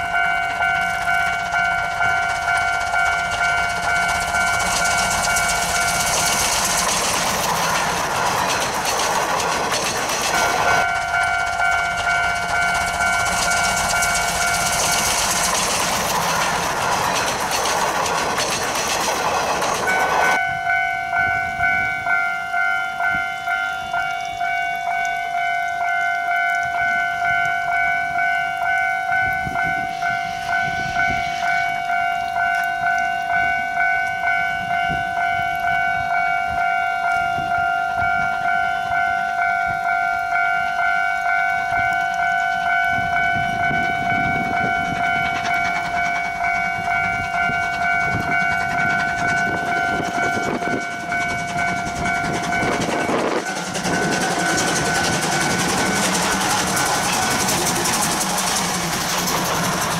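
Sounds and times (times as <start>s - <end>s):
level crossing alarm bell: 0.0s - 17.3s, 19.8s - 59.1s
steam locomotive exhaust beating: 0.0s - 59.9s
train coaches rolling past: 0.0s - 59.9s.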